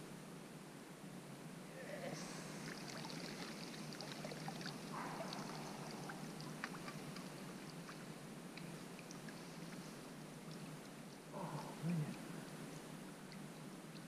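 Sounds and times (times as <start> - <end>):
steady low hiss: 0.0 - 14.0
faint ticks and rustling: 2.2 - 14.0.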